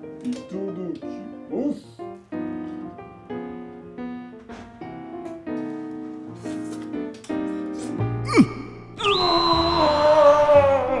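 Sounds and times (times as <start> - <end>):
piano chords and notes: 0.0 - 11.0.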